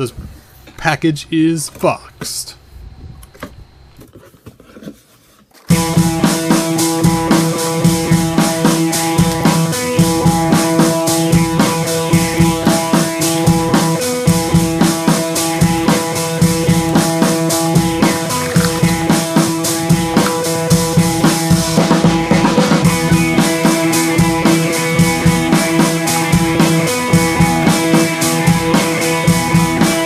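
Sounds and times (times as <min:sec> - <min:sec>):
rock music with drums and guitar: 0:05.7 - 0:30.0.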